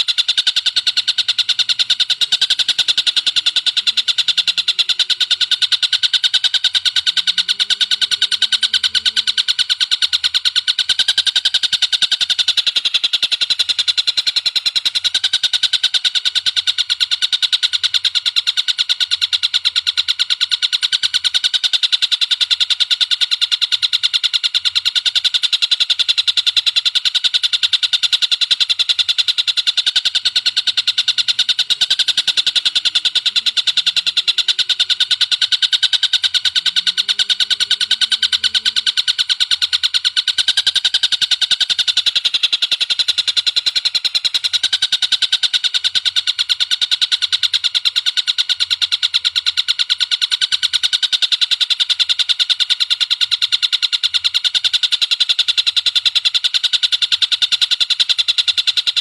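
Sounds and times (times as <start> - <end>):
recorded bird call: 0.0 - 59.0.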